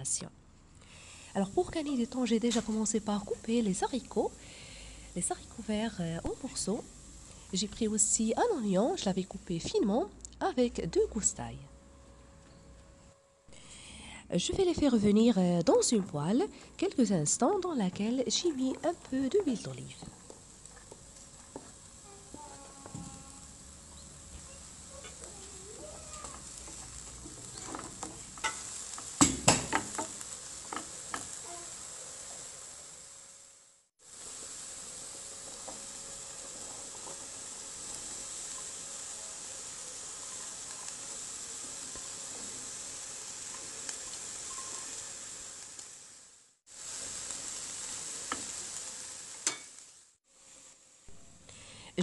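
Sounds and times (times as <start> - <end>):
onion sizzling in frying pan: 0.9 - 12.2, 13.6 - 52.0.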